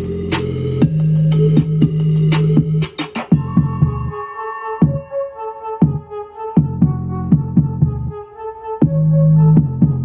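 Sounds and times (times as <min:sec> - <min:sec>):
synth melody: 0:00.0 - 0:10.0.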